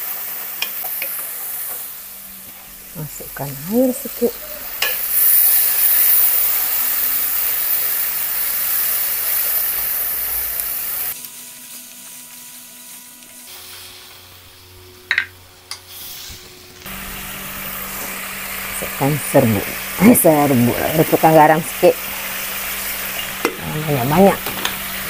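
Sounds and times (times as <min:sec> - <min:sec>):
chili paste sizzling in a pan: 0:00.0 - 0:25.0.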